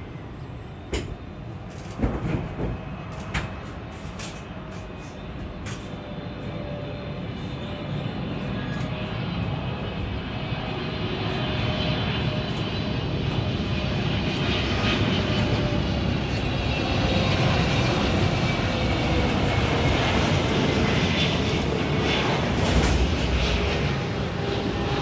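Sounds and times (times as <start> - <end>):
faint jet whine: 0.0 - 25.0
jet airliner rumble: 0.0 - 25.0.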